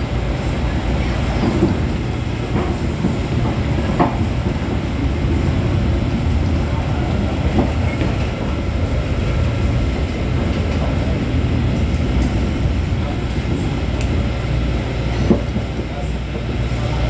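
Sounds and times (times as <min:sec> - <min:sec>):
light-rail train rumbling: 0:00.0 - 0:17.0.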